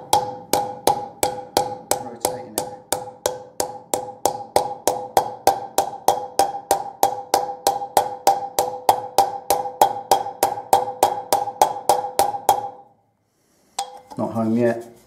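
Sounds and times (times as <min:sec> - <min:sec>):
hammer striking metal: 0:00.0 - 0:12.9, 0:13.8 - 0:14.2.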